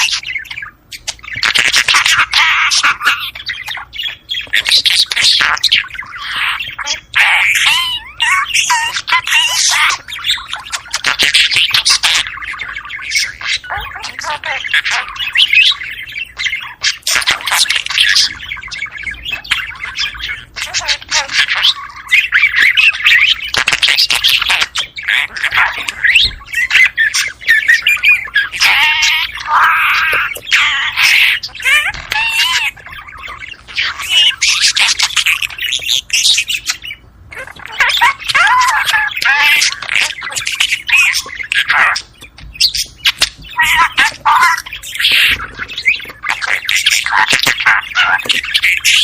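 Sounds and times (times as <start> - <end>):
budgerigars chattering: 0.0 - 49.0.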